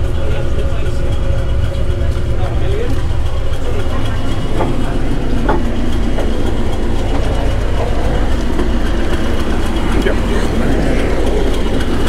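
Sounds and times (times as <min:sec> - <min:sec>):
train rumbling inside coach: 0:00.0 - 0:12.0
wheels clicking and squeaking: 0:00.0 - 0:12.0.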